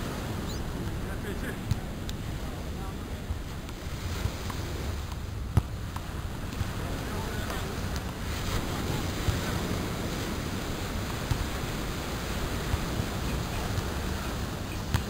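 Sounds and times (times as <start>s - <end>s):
ocean surf: 0.0s - 15.0s
wind noise on microphone: 0.0s - 15.0s.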